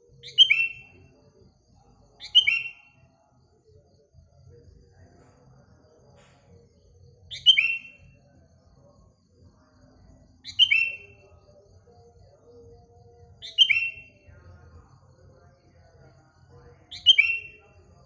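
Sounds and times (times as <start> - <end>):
faint bird chirping: 0.0 - 18.0.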